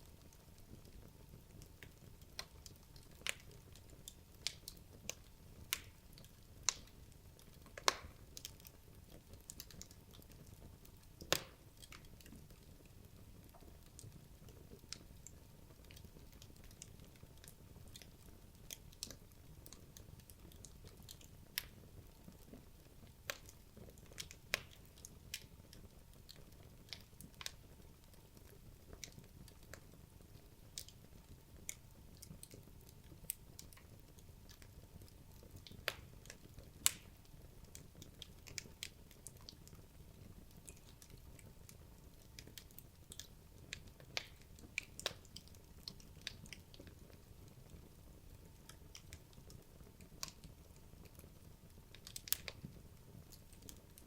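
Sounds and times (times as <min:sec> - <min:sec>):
fire crackling and popping: 0:00.0 - 0:54.0
steady hiss of flame: 0:00.0 - 0:54.0.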